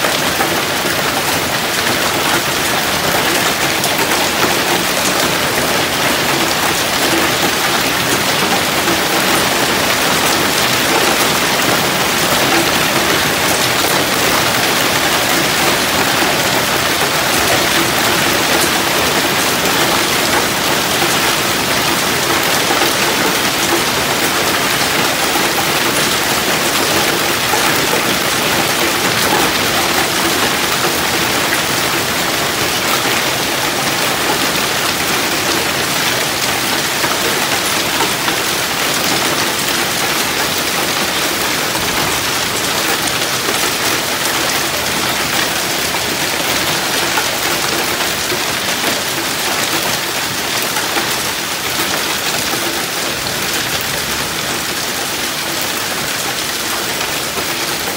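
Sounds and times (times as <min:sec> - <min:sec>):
hail and heavy rain falling: 0:00.0 - 0:57.9.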